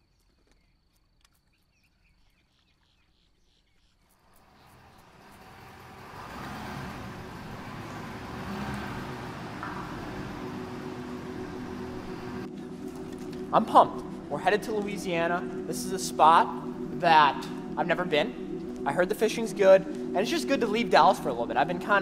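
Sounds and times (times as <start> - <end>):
truck engine and tyres: 4.2 - 22.0.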